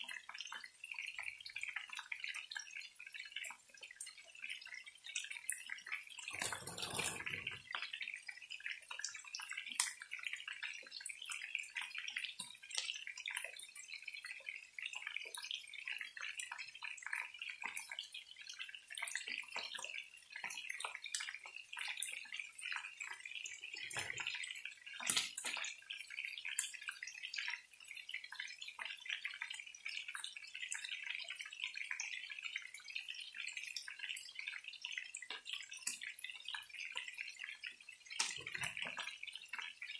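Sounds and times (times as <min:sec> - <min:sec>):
chicken frying in oil: 0:00.0 - 0:39.9.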